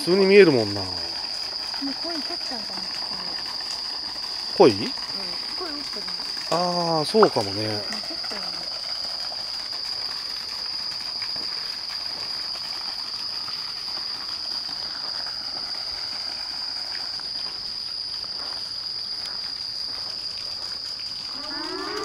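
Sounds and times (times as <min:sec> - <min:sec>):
night insects droning: 0:00.0 - 0:22.0.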